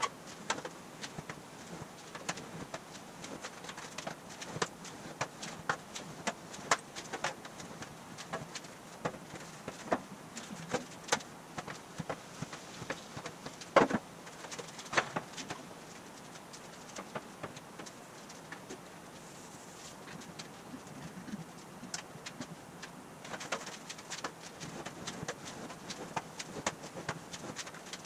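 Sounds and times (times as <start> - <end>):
aluminum sheet clicking and knocking: 0.0 - 18.8, 21.9 - 28.0.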